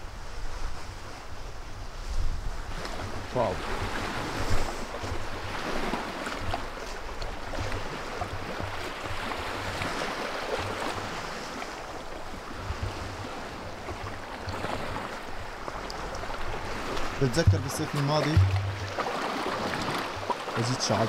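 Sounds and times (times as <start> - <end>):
wind buffeting microphone: 0.0 - 10.0, 12.2 - 20.3
waves lapping against rocks: 2.1 - 21.0.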